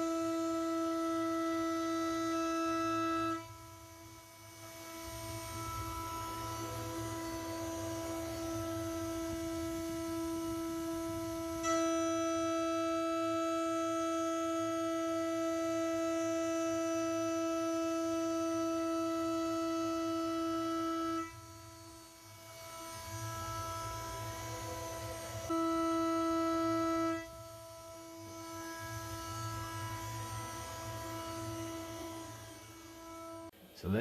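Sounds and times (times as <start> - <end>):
router spindle whining: 0.0 - 33.5.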